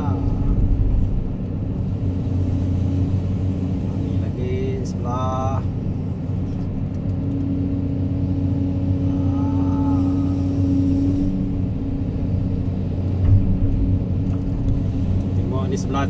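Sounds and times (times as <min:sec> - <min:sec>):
excavator diesel engine running: 0:00.0 - 0:16.0
steady hum: 0:00.0 - 0:16.0.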